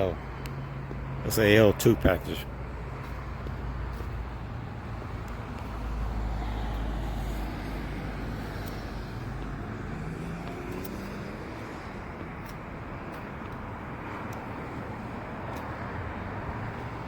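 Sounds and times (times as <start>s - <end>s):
road traffic hum: 0.0s - 17.0s
vehicle passing rumble: 0.0s - 17.0s.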